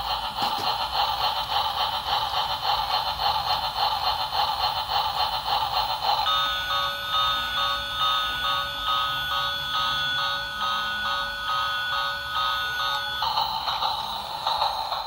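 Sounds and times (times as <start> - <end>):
buzzy pulsing toy train chug: 0.0 - 15.0.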